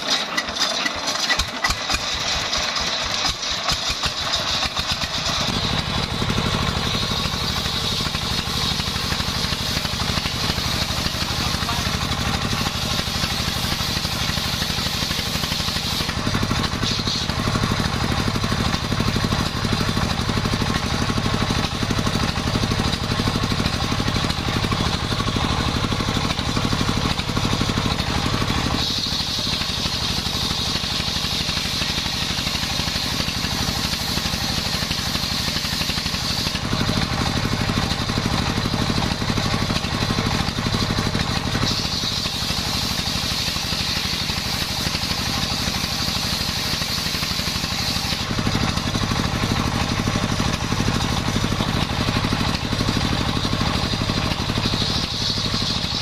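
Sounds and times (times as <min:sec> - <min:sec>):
circular saw cutting log: 0:00.0 - 0:56.0
engine droning: 0:00.0 - 0:56.0.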